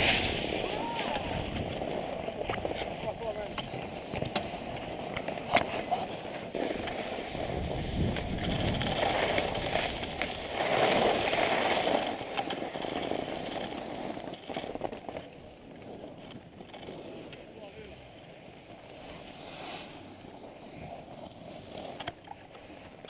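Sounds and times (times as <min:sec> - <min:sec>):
skis scraping over packed snow: 0:00.0 - 0:23.0.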